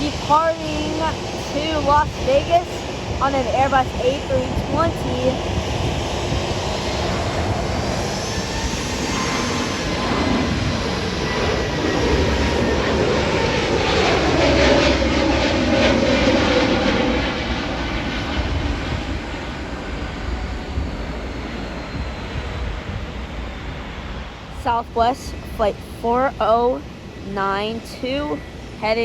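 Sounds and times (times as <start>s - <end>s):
jet engines at takeoff power: 0.0s - 29.0s.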